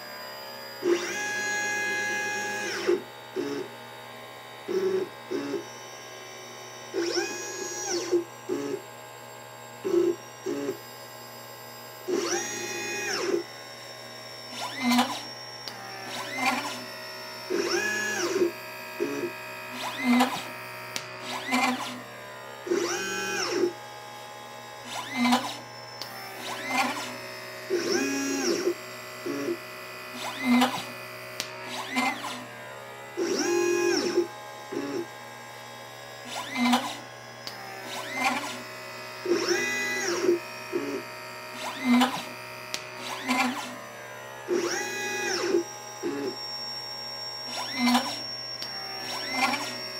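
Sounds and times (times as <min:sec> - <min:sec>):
stepper motors whining: 0:00.0 - 0:03.9, 0:04.5 - 0:49.9.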